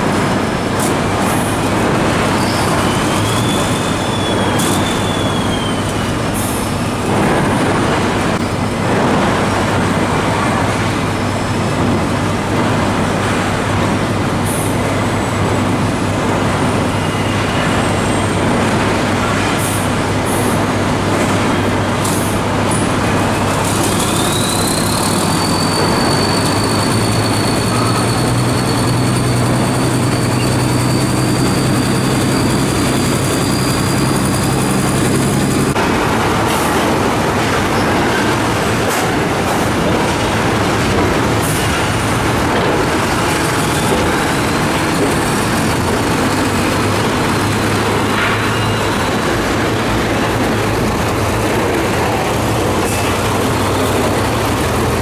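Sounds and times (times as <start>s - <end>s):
dump truck diesel engine: 0.0s - 55.0s.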